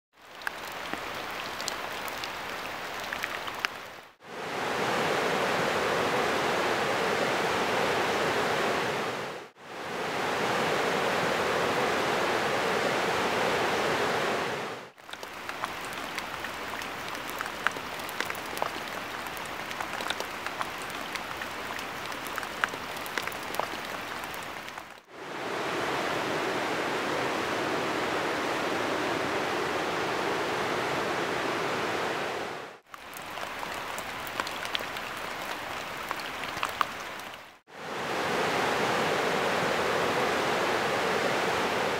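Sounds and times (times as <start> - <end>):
river water rushing over rocks: 0.2 - 41.9.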